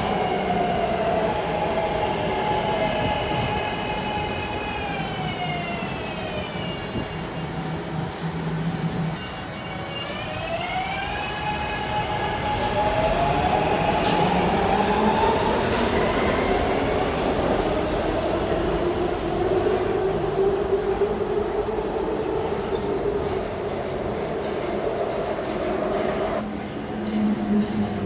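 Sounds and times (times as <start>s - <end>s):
train rumbling along rails: 0.0s - 28.0s.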